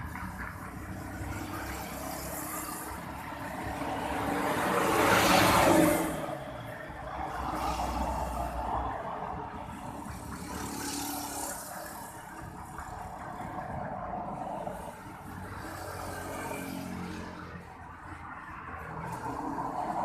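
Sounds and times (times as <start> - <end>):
cars driving by: 0.0 - 20.0.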